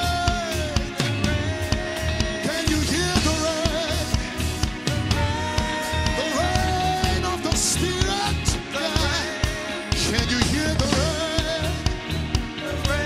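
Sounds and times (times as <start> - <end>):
band with drums and bass: 0.0 - 13.0
man singing into microphone: 0.0 - 13.0.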